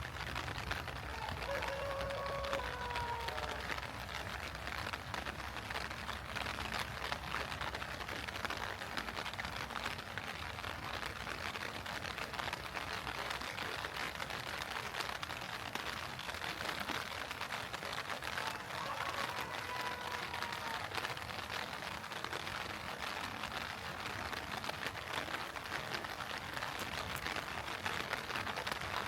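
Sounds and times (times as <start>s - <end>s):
heavy rain pattering: 0.0s - 29.0s.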